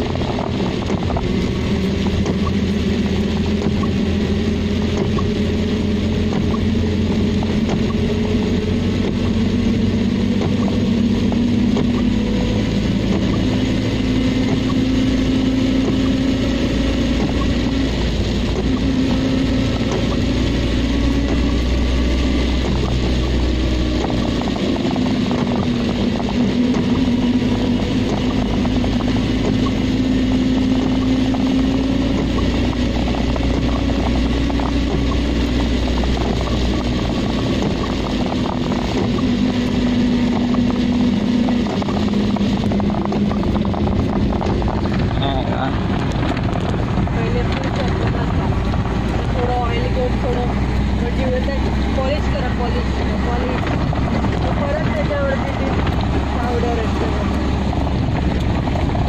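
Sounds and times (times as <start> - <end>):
car engine hum: 0.0 - 59.0
rain: 0.0 - 59.0
tyre noise on wet road: 0.0 - 59.0.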